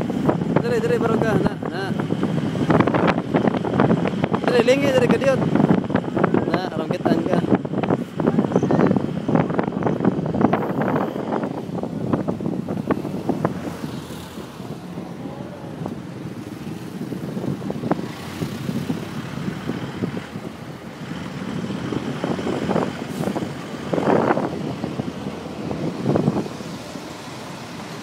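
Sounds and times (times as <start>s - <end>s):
vehicle engine and road noise: 0.0s - 28.0s
wind buffeting microphone: 0.0s - 28.0s.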